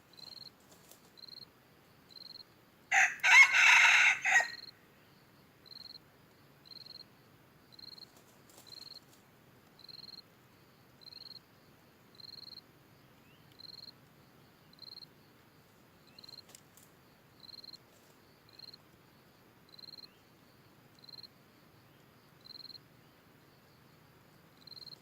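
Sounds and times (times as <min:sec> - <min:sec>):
faint background hiss: 0:00.0 - 0:25.0
insect chirping: 0:00.0 - 0:25.0.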